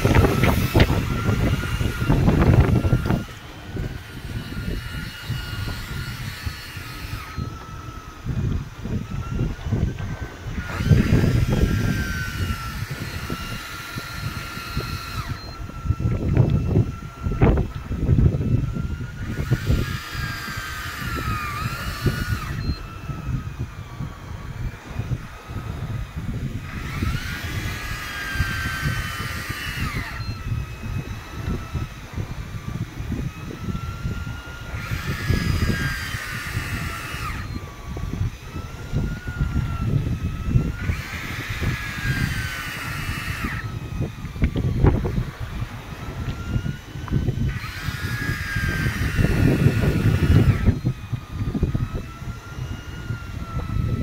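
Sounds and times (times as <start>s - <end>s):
boat engine running: 0.0s - 54.0s
faint steady high whine: 0.0s - 54.0s
fishing reel drag screaming: 0.0s - 54.0s
wind rumbling on microphone: 0.0s - 54.0s.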